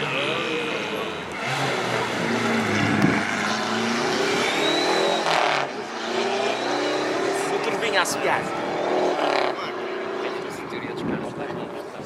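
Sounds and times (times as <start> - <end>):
rally car engine revving: 0.0 - 11.9.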